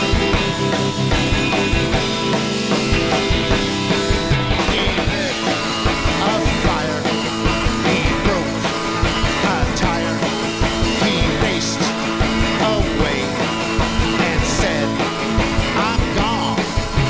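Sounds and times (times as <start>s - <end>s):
drums: 0.0s - 17.0s
electric guitar: 0.0s - 17.0s
rock band playing live: 0.0s - 17.0s.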